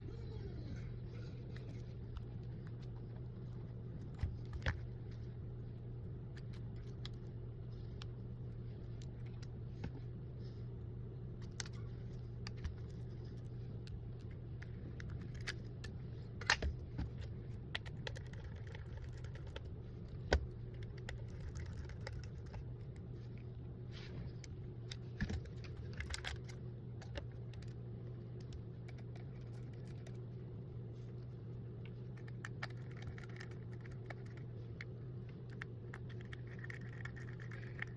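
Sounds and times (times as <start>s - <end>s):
low electrical hum: 0.0s - 37.9s.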